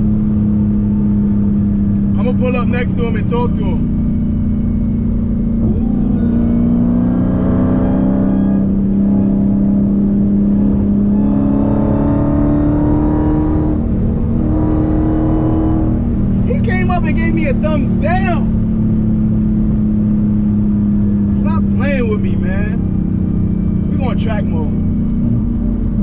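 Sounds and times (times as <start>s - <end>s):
car engine drone from cabin: 0.0s - 26.0s.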